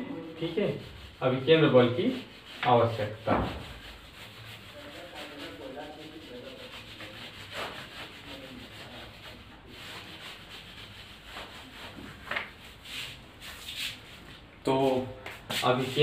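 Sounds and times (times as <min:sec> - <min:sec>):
duster scrubbing a whiteboard: 0:00.2 - 0:16.0.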